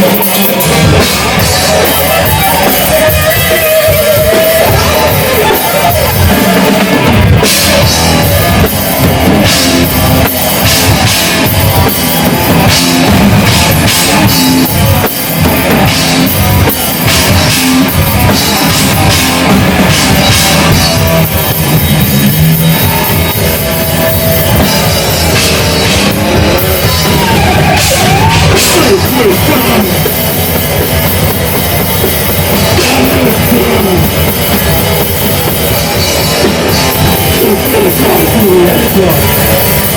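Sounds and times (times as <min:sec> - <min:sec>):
fast heavy drumming: 0:00.0 - 0:39.9
metal band playing live: 0:00.0 - 0:39.9
sliding high guitar notes: 0:00.0 - 0:39.9.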